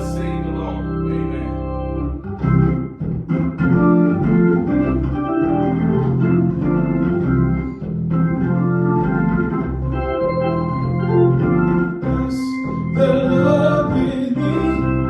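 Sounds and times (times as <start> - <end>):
hammond-type organ playing chords: 0.0 - 15.0.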